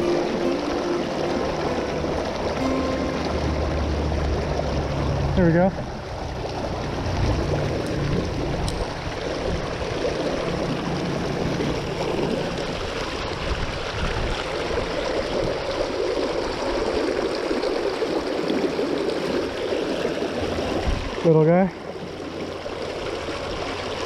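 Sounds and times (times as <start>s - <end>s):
creek rushing over cobbles: 0.0s - 24.0s.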